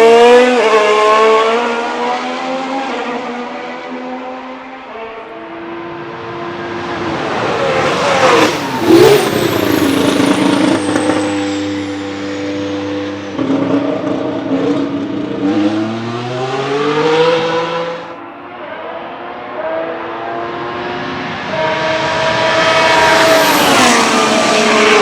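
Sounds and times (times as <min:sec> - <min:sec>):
racing car accelerating: 0:00.0 - 0:25.0
racing car engine passing: 0:00.0 - 0:25.0.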